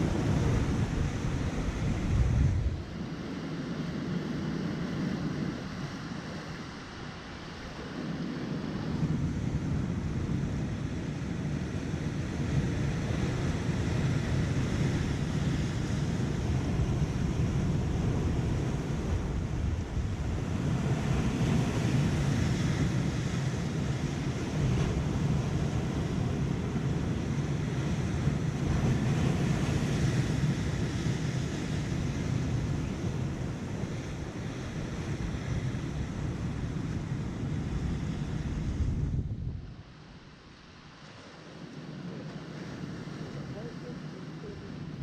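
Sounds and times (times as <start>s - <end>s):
wind buffeting microphone: 0.0s - 40.3s
surf washing against rocks: 0.0s - 45.0s.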